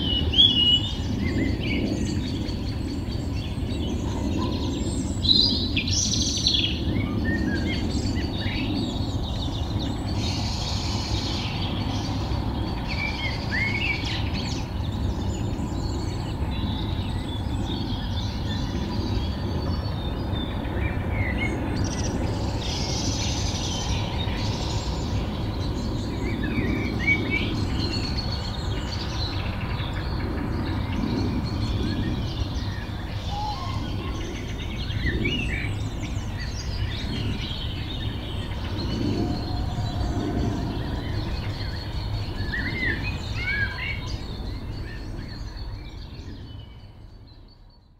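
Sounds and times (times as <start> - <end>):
low background rumble: 0.0 - 47.6
birds chirping and trilling: 0.0 - 47.9.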